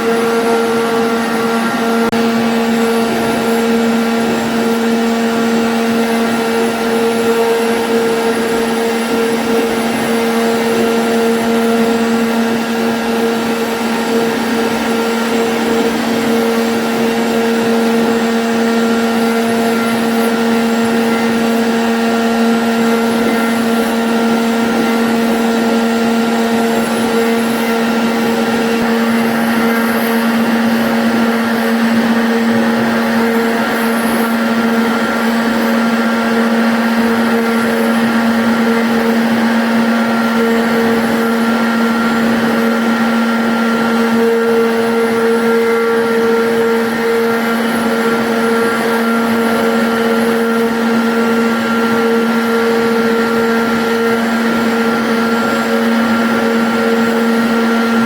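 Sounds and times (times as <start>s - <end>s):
cutting noise: 0.0s - 58.0s
router spindle humming: 0.0s - 58.0s.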